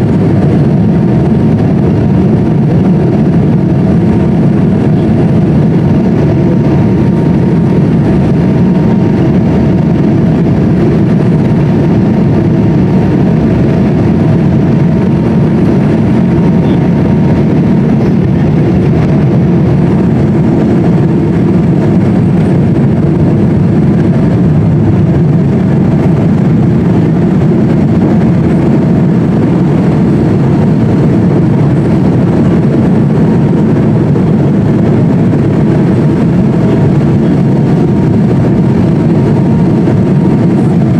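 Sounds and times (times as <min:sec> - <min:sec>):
faint hum: 0:00.0 - 0:40.9
road and engine rumble in car: 0:00.0 - 0:40.9.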